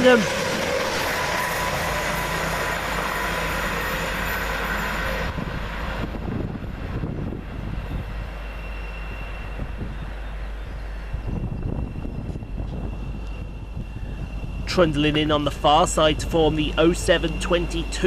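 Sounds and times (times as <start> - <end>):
diesel train passing at speed: 0.0 - 18.0.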